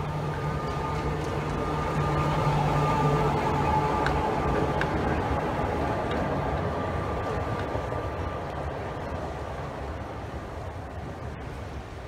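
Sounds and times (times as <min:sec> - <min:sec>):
thin steady whine: 0:00.0 - 0:12.0
tram rumbling on rails: 0:00.0 - 0:12.0.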